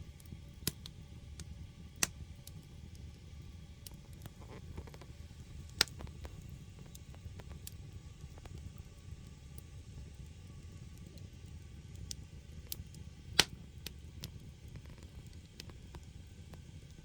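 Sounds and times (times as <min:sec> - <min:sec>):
fire rumbling: 0:00.0 - 0:17.0
wood crackling and popping: 0:00.1 - 0:17.0.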